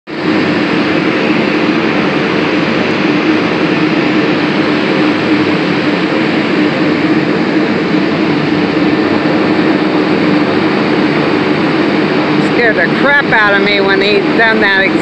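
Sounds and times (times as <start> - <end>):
turboprop engines droning: 0.1 - 15.0.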